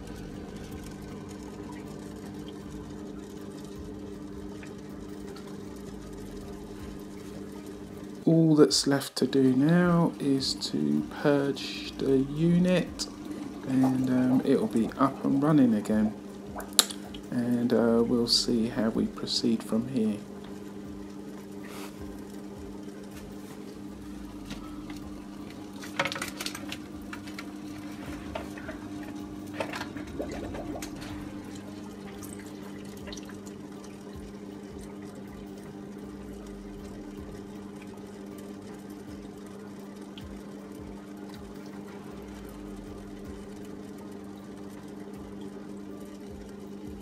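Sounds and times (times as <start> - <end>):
filter pump humming: 0.0 - 47.0
water gurgling through tubing: 0.0 - 47.0.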